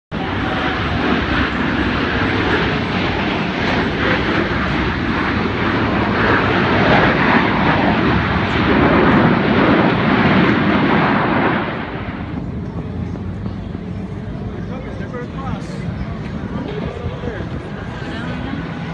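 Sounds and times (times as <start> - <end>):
plane engine flying by: 0.1 - 18.9.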